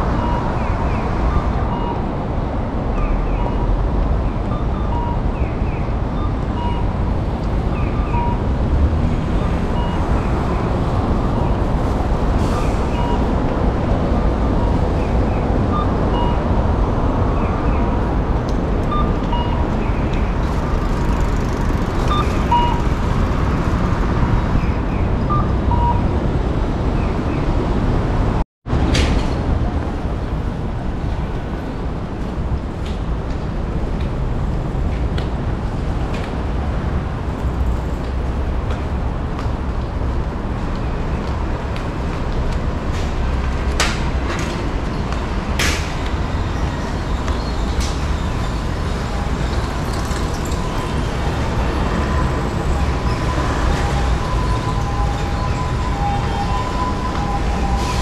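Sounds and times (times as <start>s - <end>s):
traffic noise: 0.0s - 58.0s.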